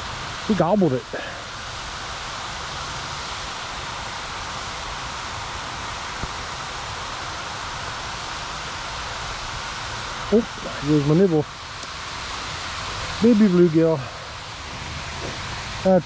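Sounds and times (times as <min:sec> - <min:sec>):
river water flowing over rocks: 0:00.0 - 0:16.0.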